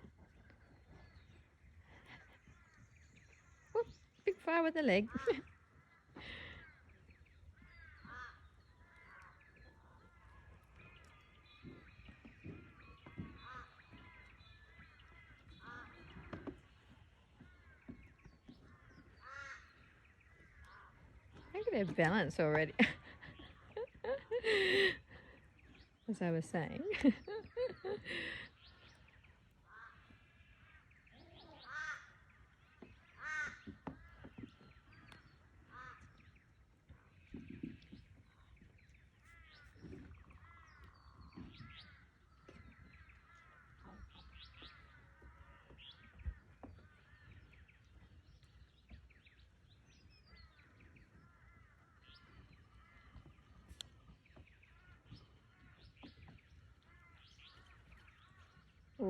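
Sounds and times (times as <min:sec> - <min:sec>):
young birds cawing: 0:05.1 - 0:26.0, 0:26.8 - 0:37.4, 0:39.3 - 0:48.5, 0:50.2 - 0:59.0.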